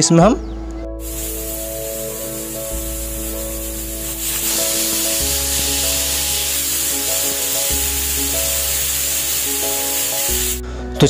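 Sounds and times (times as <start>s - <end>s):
background music: 0.0s - 11.0s
pressure cooker whistling: 1.0s - 10.6s
steam hissing from vent: 1.0s - 10.6s.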